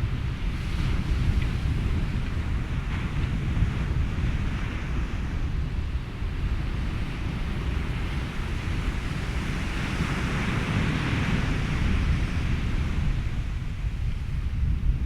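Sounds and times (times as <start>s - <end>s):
steady wind: 0.0s - 15.0s.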